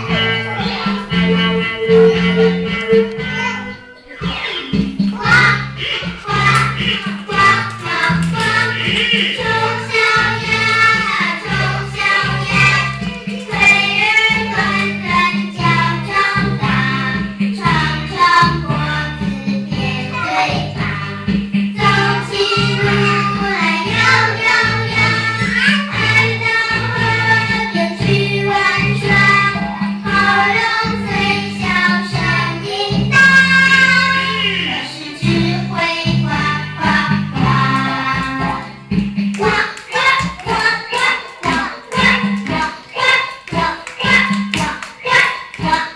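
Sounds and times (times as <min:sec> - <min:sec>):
children singing: 0:00.0 - 0:38.8, 0:39.4 - 0:45.9
instrumental backing track: 0:00.0 - 0:45.9.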